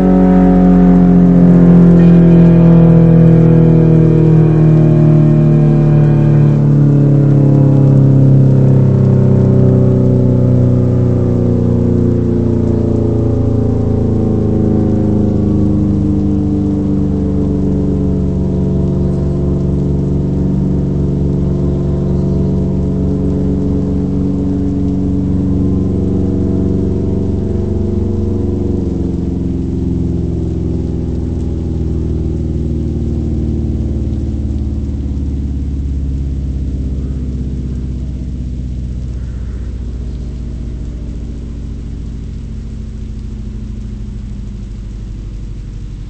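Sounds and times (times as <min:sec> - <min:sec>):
warning siren winding down: 0:00.0 - 0:46.0.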